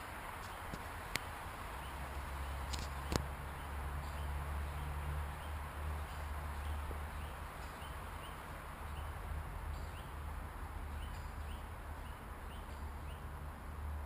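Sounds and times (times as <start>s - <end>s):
soft hiss: 0.0s - 14.0s.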